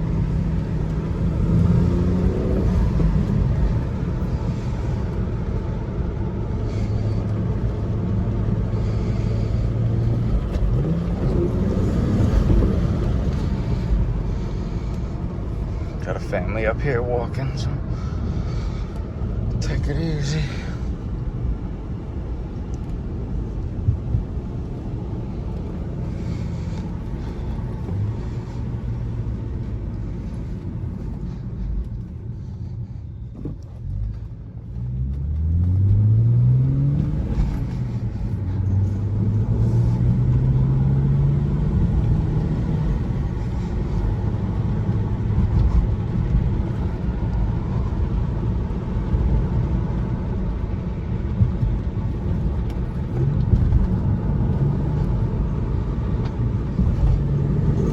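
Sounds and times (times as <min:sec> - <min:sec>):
car engine revving: 0:00.0 - 0:21.2, 0:22.8 - 0:50.6, 0:52.0 - 0:57.9.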